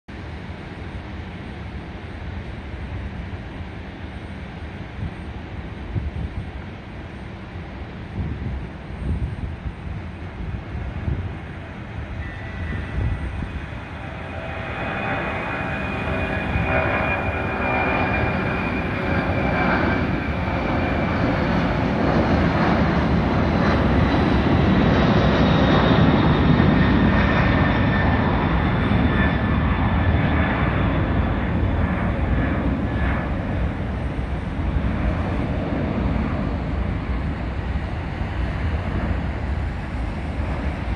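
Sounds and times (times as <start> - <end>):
jet engine high whine: 0.1 - 40.9
jet engines deep rumble: 0.1 - 40.9.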